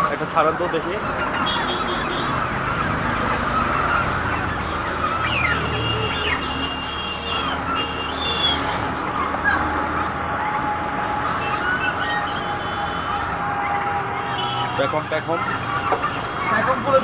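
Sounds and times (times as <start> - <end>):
birds chirping: 0.0 - 17.0
chickens clucking: 0.0 - 17.0.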